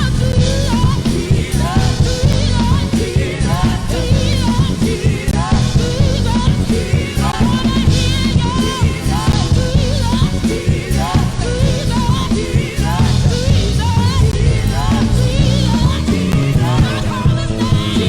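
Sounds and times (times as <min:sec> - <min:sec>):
worship band music: 0:00.0 - 0:18.0.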